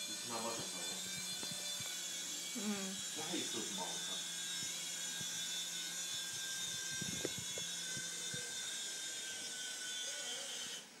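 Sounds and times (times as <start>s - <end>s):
toy helicopter rotors whirring: 0.0s - 11.0s.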